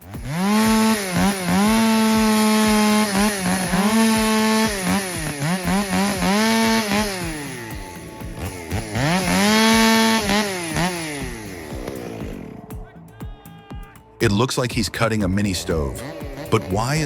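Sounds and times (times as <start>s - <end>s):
chainsaw cutting wood: 0.0s - 12.8s, 15.8s - 17.0s.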